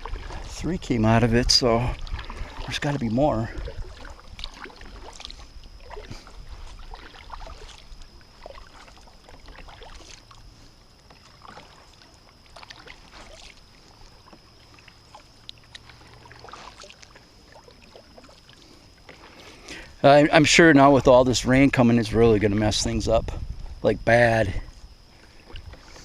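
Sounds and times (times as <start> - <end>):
faint low rumble: 0.0 - 26.0
high-pitched whine: 0.0 - 26.0.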